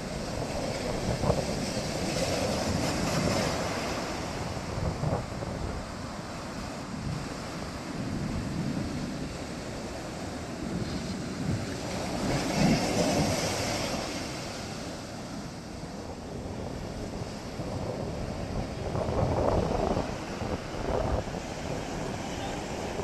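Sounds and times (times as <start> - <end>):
sea waves breaking: 0.0 - 23.0
wind buffeting microphone: 0.0 - 23.0.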